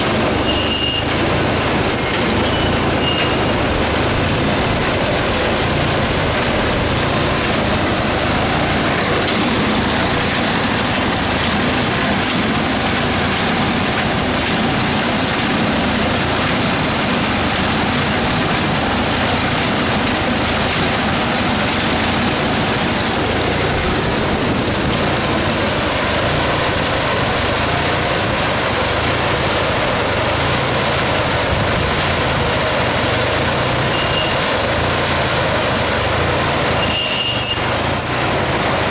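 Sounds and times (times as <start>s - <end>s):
tractor engine idling: 0.0s - 36.8s
hay elevator machinery running: 0.0s - 38.9s.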